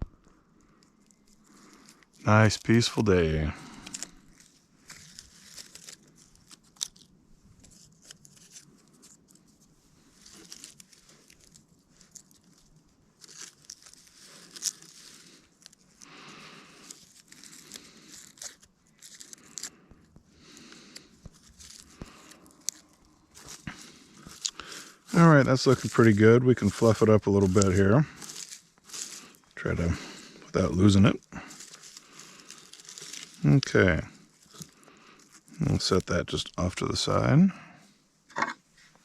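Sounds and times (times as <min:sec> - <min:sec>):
bark tearing and crinkling: 0:00.6 - 0:36.1.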